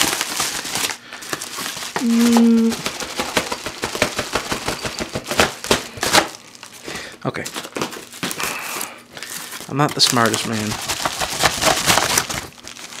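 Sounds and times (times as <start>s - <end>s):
padded envelope crinkling: 0.0s - 13.0s.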